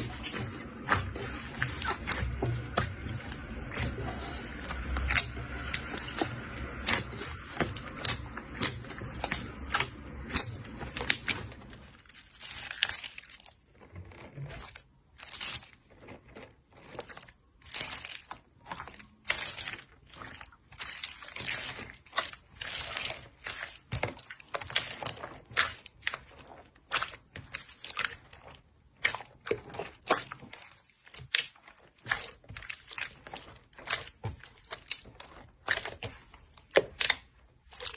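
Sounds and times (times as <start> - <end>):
slime crackling and popping: 0.0 - 37.9.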